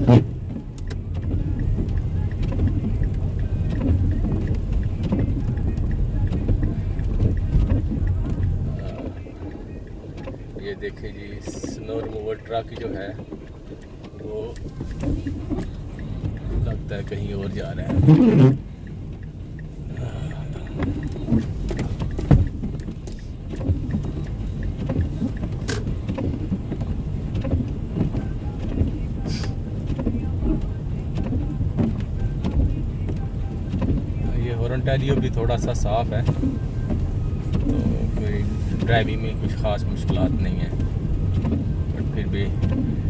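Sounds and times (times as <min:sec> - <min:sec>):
car interior road rumble: 0:00.0 - 0:43.0.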